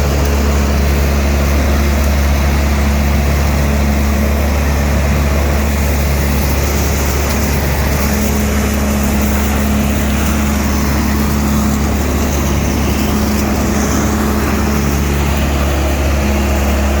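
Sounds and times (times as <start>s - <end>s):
leaf vacuum machine droning: 0.0s - 17.0s.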